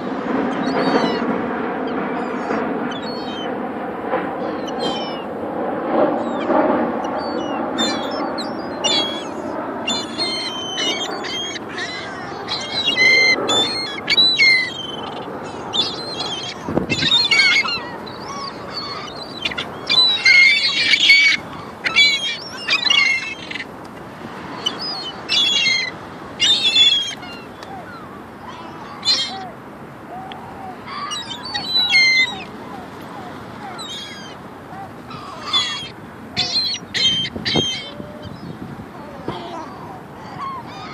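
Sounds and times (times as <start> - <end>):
gulls calling: 0.0 - 40.9.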